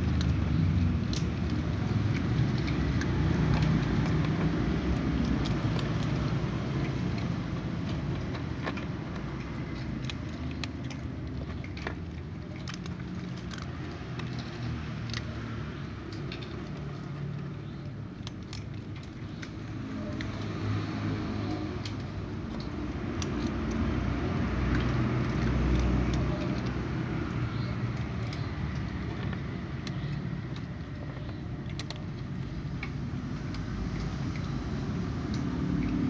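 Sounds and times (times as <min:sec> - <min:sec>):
cats crunching dry kibble: 0:00.0 - 0:36.0.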